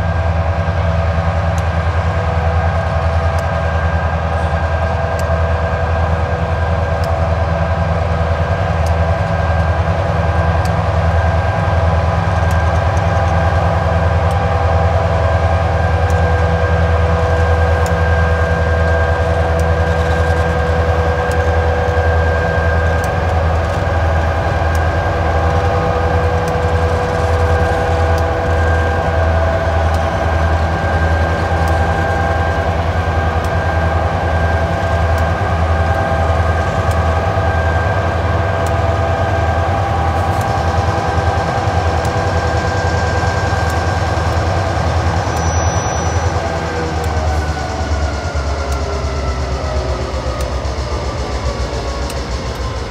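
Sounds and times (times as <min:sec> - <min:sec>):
locomotive engine rumble: 0:00.0 - 0:52.9
steady high whine: 0:00.0 - 0:52.9.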